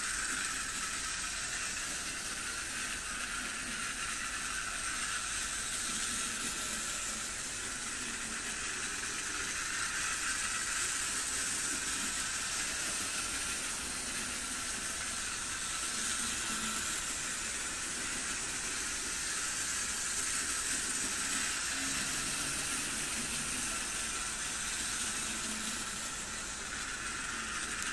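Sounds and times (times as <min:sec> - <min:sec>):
low rumble of model train: 0:00.0 - 0:27.9
model train motor whirring: 0:00.0 - 0:27.9.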